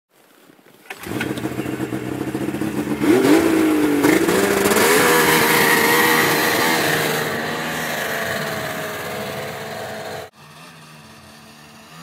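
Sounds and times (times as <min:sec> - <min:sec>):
snowmobile engine starting and revving: 0:00.8 - 0:12.0.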